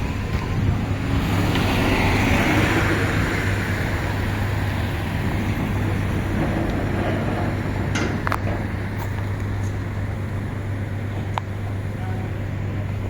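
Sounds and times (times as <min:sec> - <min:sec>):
low engine hum: 0:00.0 - 0:13.0
road noise: 0:00.0 - 0:13.0.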